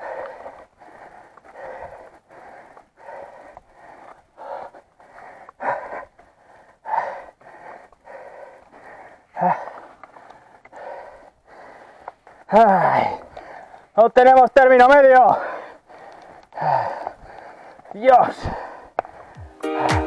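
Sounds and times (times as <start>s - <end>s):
man panting heavily: 0.0s - 19.6s.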